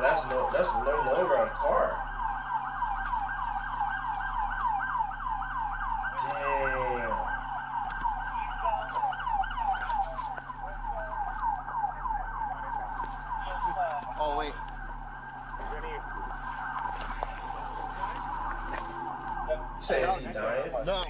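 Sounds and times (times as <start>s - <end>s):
siren yelping: 0.0s - 21.0s.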